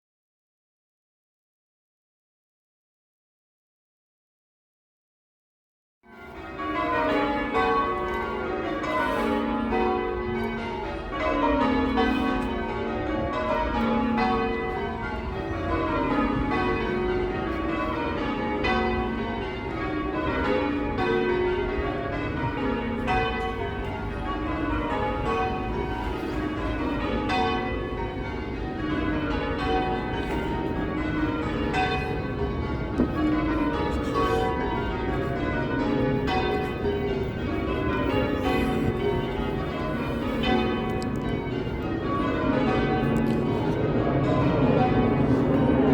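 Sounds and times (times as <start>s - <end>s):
church bells ringing in rows: 6.1s - 45.9s.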